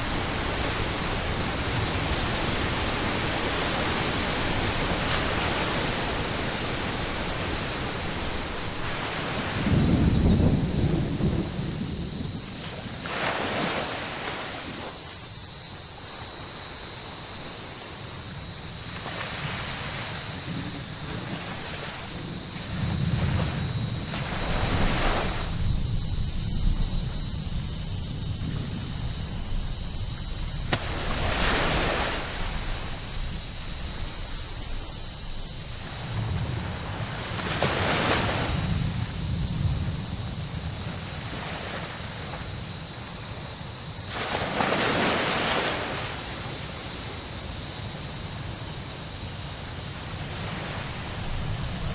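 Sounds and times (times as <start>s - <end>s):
low wind rumble: 0.0s - 44.1s, 44.8s - 51.9s
hiss of water: 0.0s - 51.9s
wave breaking and washing in: 0.0s - 51.9s.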